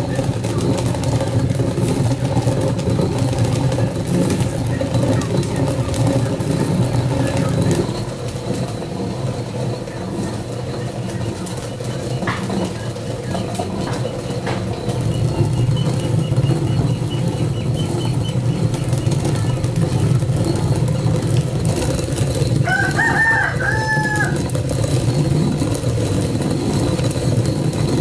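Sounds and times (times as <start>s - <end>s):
small engine droning: 0.0s - 28.0s.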